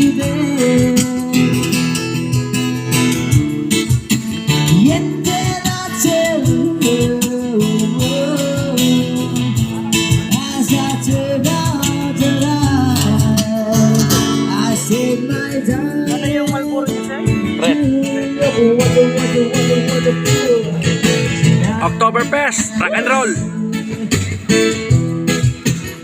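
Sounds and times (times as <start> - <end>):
guitar-led music: 0.0 - 26.0.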